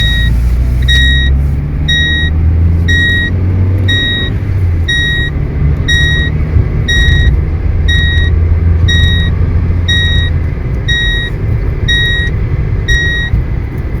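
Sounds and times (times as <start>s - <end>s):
seat belt warning beeps: 0.0s - 13.4s
car low rumble: 0.0s - 14.0s.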